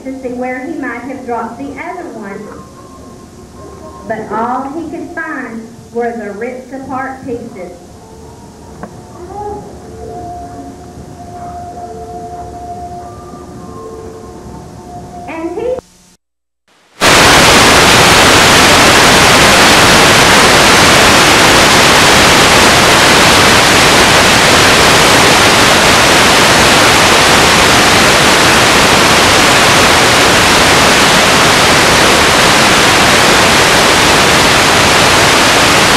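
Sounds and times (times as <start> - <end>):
videotape static hiss: 0.0 - 35.9.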